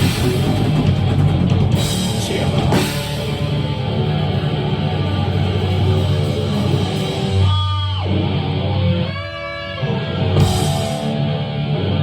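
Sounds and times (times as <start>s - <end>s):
metal band playing: 0.0s - 12.0s.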